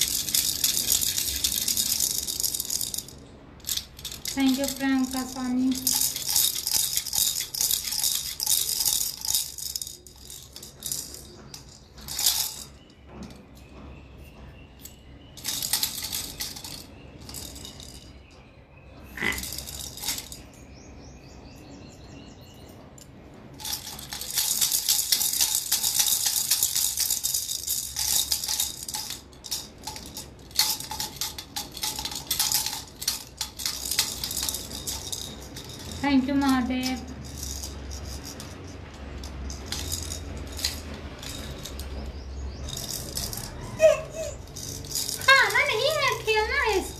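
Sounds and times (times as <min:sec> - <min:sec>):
plastic baby rattles shaken: 0:00.0 - 0:13.4, 0:14.8 - 0:18.2, 0:19.2 - 0:20.6, 0:23.5 - 0:46.9.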